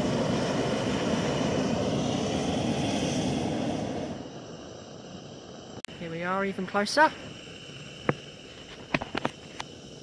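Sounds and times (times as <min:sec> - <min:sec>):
propane burner blast: 0:00.0 - 0:10.0.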